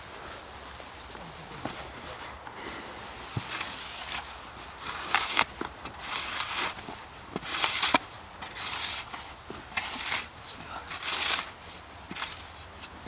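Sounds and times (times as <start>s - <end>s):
rustling and rubbing noises: 0.0s - 13.0s.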